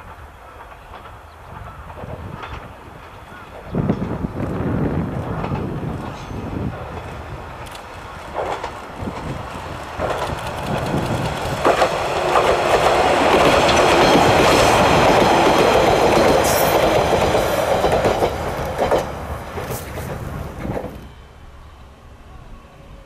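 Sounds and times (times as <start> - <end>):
wheels clicking over rail joints: 0.0 - 21.1
diesel railcar passing: 0.0 - 23.0.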